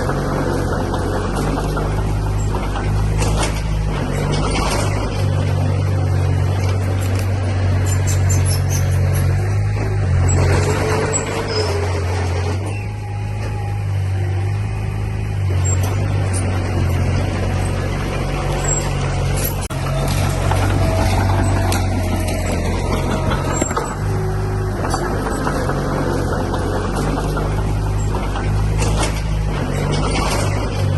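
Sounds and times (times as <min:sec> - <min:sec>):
heavy machinery diesel engine: 0:00.0 - 0:30.9
metallic squeaks and clicks: 0:01.2 - 0:14.2, 0:15.4 - 0:30.9.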